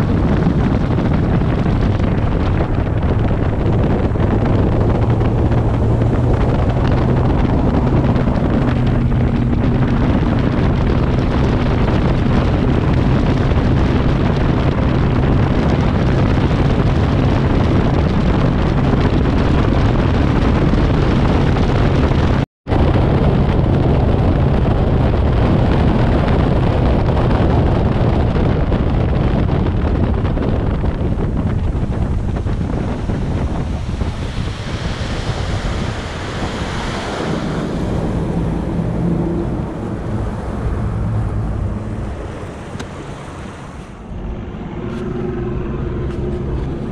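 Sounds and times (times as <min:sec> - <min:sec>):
outboard motor running: 0:00.0 - 0:46.9
water rushing past hull: 0:00.0 - 0:46.9
wind buffeting microphone: 0:00.0 - 0:46.9.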